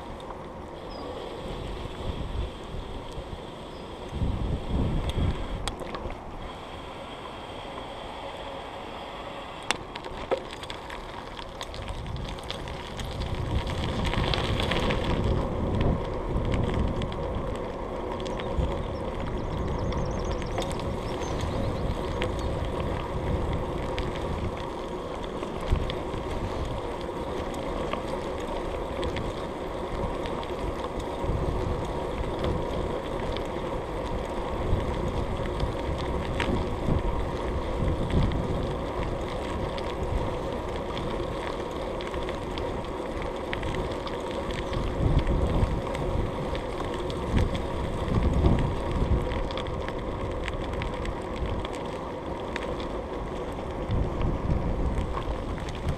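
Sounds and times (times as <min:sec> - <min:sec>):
wind buffeting microphone: 0:00.0 - 0:06.5, 0:11.4 - 0:55.9
bicycle tyre rumble on dirt: 0:00.0 - 0:55.9.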